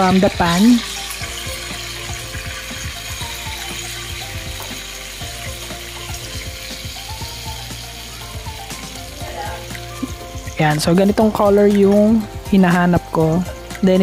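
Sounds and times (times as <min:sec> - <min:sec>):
oil sizzling in a frying pan: 0:00.0 - 0:14.0
soft background music: 0:00.0 - 0:14.0.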